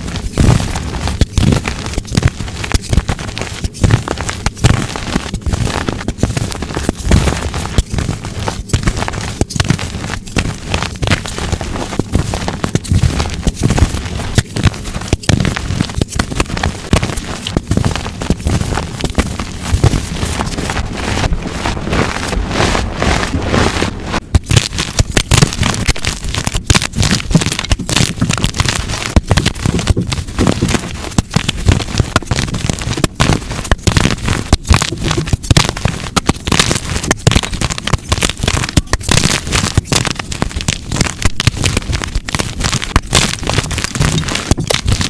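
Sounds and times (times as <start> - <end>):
chalk blocks crunching by hand: 0.0 - 45.0.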